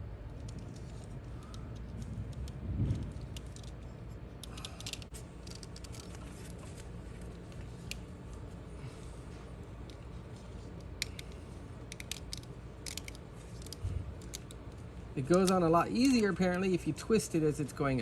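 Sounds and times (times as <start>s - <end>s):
steady low hum: 0.0s - 18.0s
wires rustling through plastic sheathing: 0.0s - 18.0s.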